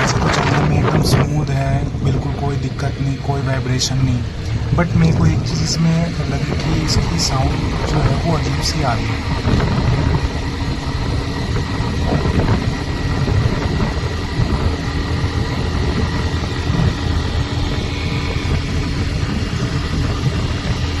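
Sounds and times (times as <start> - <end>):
motorcycle engine running: 0.0 - 21.0
riding noise: 0.0 - 21.0
steady whine: 0.0 - 21.0.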